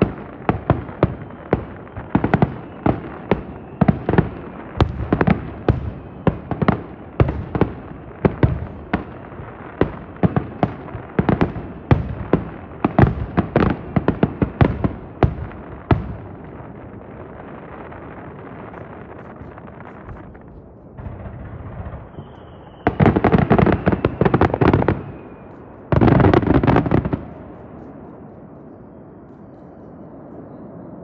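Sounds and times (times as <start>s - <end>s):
fireworks bursting: 0.0s - 28.3s
background noise: 0.0s - 31.0s.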